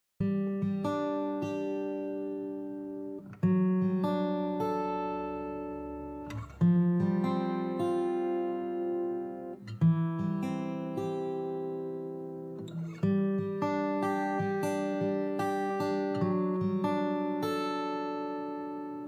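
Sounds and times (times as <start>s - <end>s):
plucked acoustic guitar chords: 0.2s - 19.0s.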